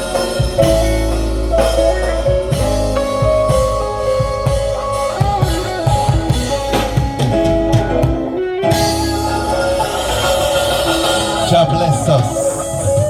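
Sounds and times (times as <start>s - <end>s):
live reggae band instrumental: 0.0s - 13.0s.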